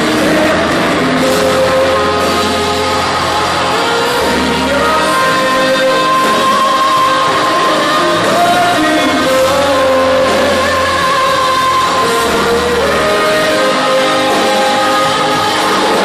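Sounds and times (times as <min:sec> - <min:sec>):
person singing: 0:00.0 - 0:16.0
rock band playing live: 0:00.0 - 0:16.0.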